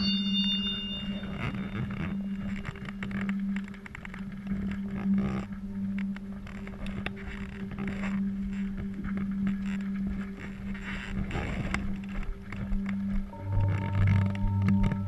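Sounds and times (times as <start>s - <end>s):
low mechanical hum: 0.0s - 15.0s
clicks and rustles: 1.2s - 15.0s.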